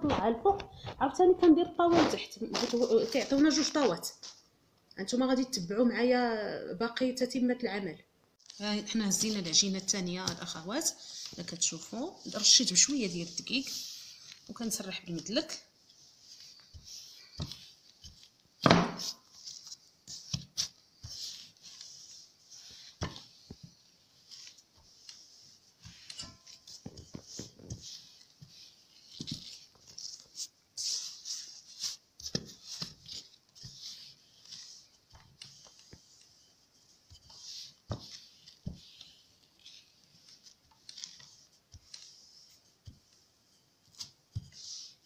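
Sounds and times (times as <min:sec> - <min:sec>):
rolling pin swishing on dough: 0:08.6 - 0:45.0.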